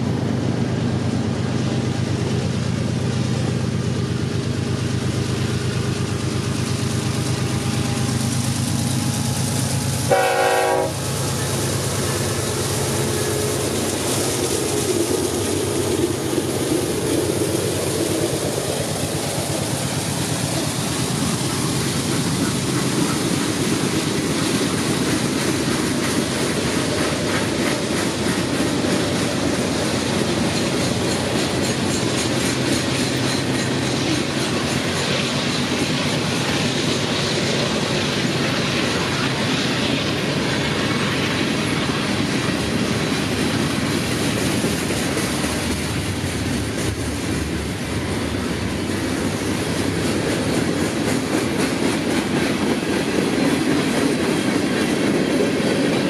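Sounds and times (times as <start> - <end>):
freight train wheels rolling on rails: 0.0 - 56.0.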